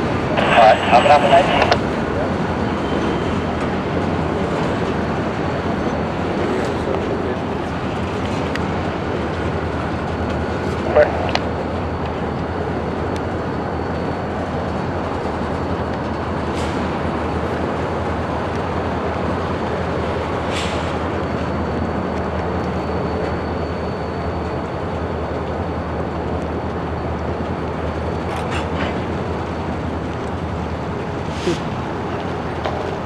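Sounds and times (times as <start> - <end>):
diesel locomotive rumbling: 0.0 - 33.0.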